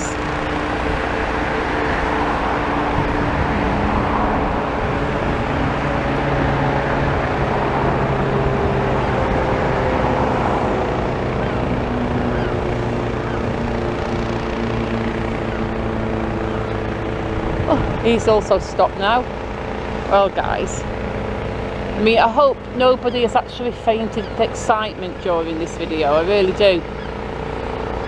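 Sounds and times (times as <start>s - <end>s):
engines droning: 0.0s - 28.0s
shifting hum tones: 0.0s - 28.0s.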